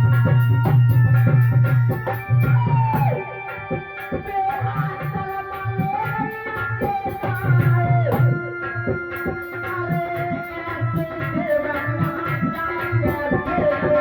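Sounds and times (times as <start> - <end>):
hand drum rhythm: 0.0 - 14.0.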